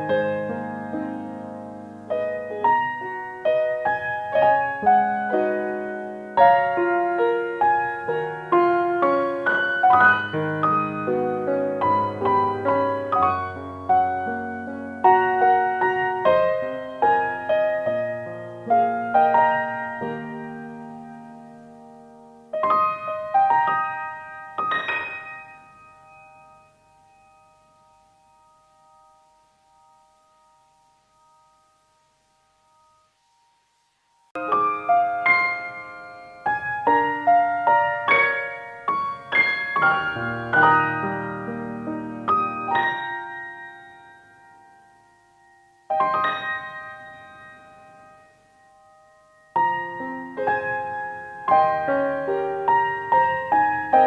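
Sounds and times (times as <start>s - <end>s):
piano chord ringing: 0.0s - 33.5s, 34.4s - 54.0s.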